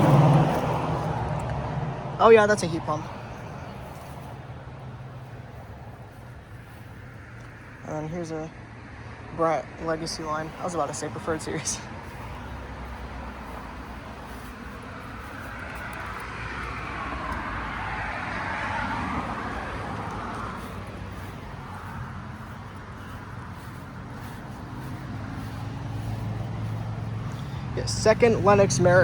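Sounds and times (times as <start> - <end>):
car passing by: 0.0 - 29.0.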